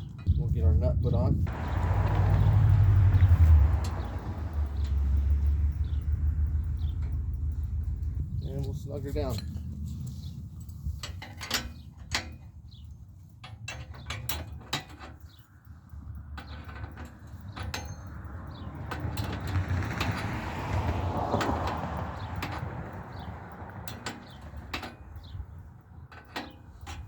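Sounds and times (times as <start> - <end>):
sharp metal clicks: 1.5 - 9.6, 10.6 - 27.0.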